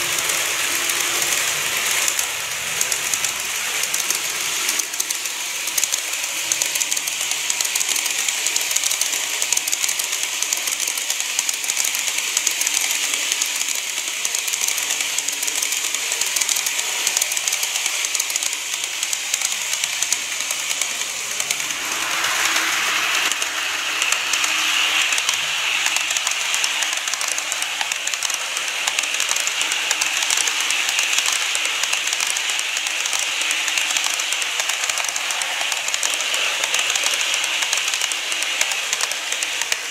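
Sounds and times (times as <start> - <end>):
model train wheels clicking on rails: 0.0 - 39.9.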